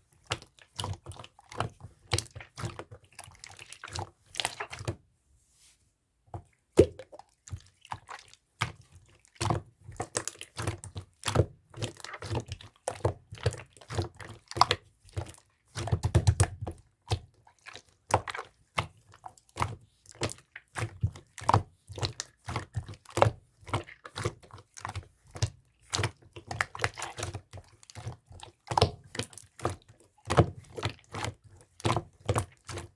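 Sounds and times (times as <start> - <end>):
slime squelching: 0.0 - 5.7, 6.4 - 32.9.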